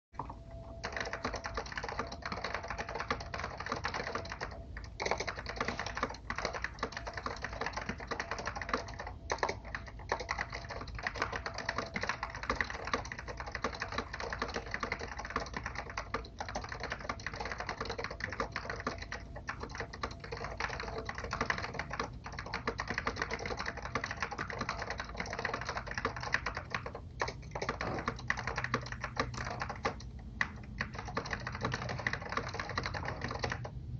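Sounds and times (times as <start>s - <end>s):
fast keyboard typing: 0.2s - 33.9s.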